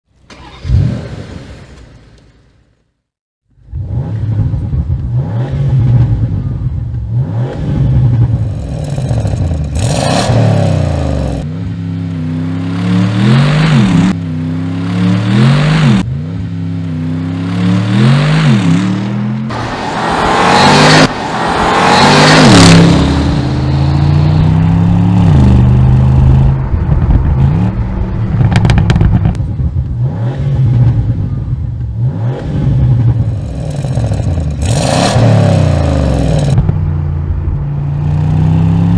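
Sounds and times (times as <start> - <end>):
car engine and exhaust accelerating: 3.5 - 38.9.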